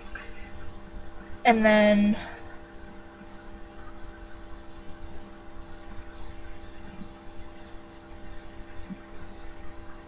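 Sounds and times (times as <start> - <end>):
faint low room rumble: 0.0 - 10.0
steady electrical hum: 0.0 - 10.0.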